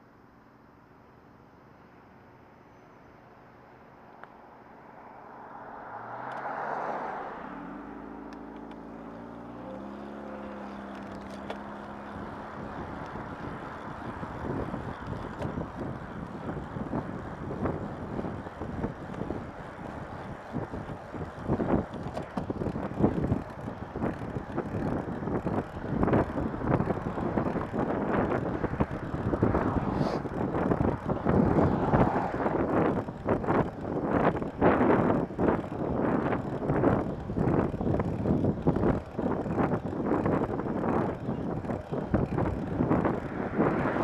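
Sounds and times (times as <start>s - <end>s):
vehicle engine accelerating: 4.6s - 44.0s
wind buffeting microphone: 6.4s - 44.0s.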